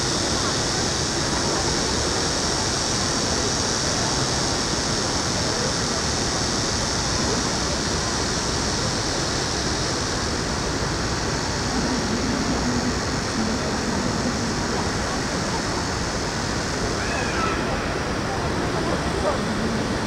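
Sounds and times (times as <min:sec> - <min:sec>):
city ambience noise: 0:00.0 - 0:20.0
faint voices of passers-by: 0:00.0 - 0:20.0.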